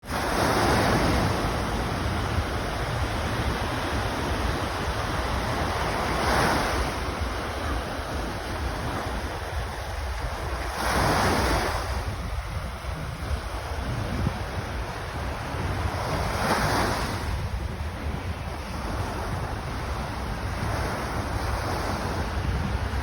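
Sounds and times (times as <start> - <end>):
sea waves breaking on shore: 0.0 - 23.0
wind buffeting microphone: 0.1 - 23.0.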